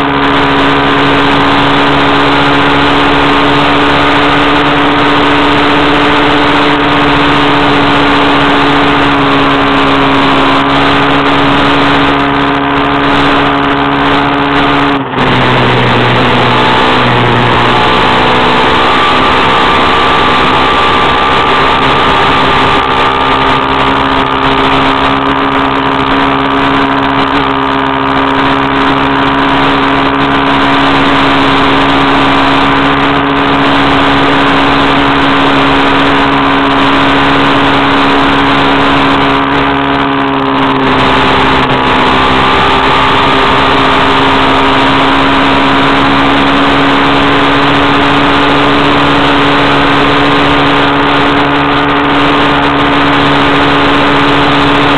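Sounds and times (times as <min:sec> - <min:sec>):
tyres on gravel road: 0:00.0 - 0:54.9
vehicle engine running: 0:00.0 - 0:54.9.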